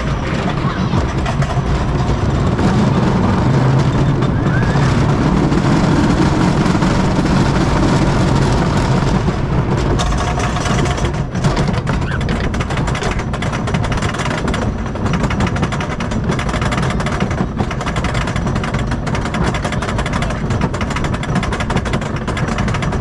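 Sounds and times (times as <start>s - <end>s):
fast clatter of sharp clicks: 0.0s - 23.0s
roller coaster wheels rumbling: 0.0s - 23.0s.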